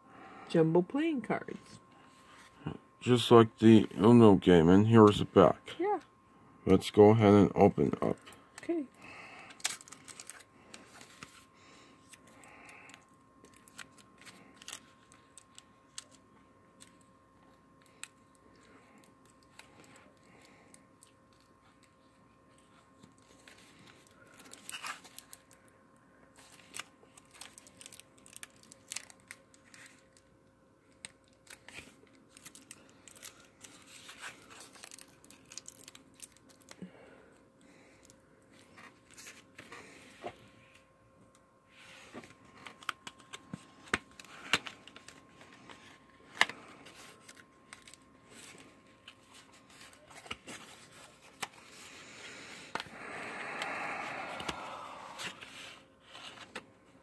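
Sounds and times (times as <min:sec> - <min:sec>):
wrapping crinkling and tearing: 0:07.8 - 0:39.9, 0:42.2 - 0:56.6.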